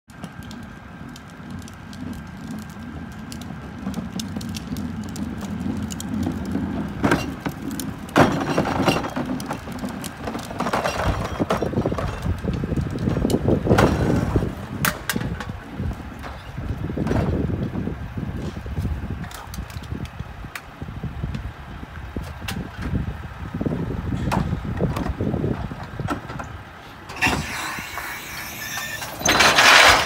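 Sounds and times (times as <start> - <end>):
diesel truck engine running: 0.1 - 30.0
wheeled carts rattling over pavement: 0.1 - 30.0
carts clunking: 0.2 - 19.8, 24.1 - 30.0.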